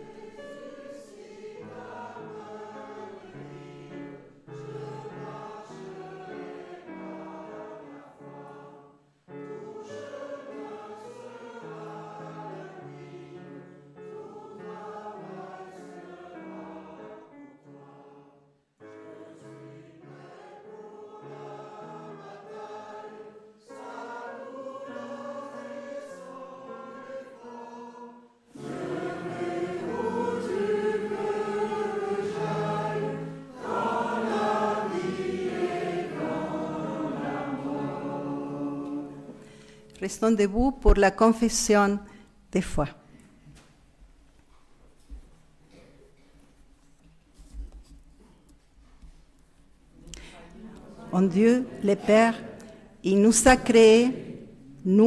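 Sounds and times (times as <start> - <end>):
congregation singing a hymn: 0.0 - 40.4, 49.9 - 55.0.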